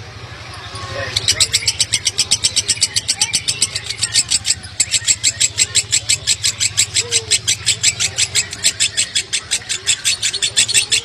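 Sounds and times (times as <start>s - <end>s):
lovebird chattering: 0.6s - 11.0s.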